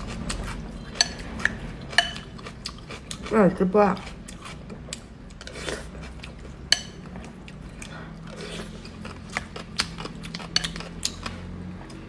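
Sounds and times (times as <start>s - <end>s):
chewing and crunching: 0.0s - 3.4s, 4.0s - 12.0s.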